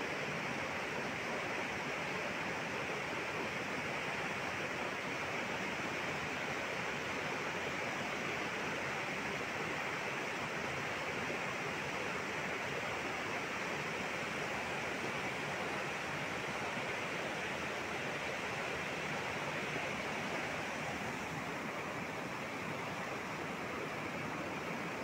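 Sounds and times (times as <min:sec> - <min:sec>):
floodwater rushing: 0:00.3 - 0:25.0.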